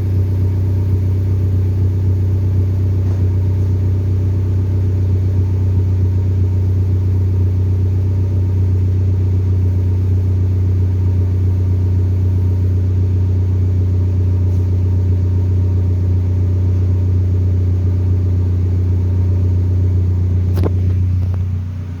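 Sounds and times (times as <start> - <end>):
car engine and exhaust running: 0.0 - 22.0.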